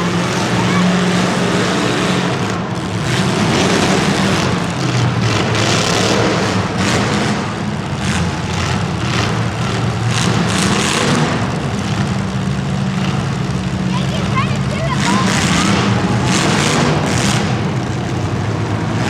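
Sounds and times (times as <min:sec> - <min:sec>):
vehicle engines revving: 0:00.0 - 0:19.0.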